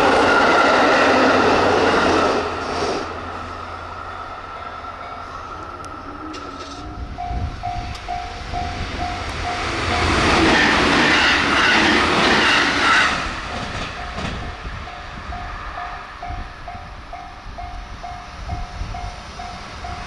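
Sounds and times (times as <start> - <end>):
electric train passing at speed: 0.0 - 20.0
level-crossing warning bell dinging: 0.0 - 20.0.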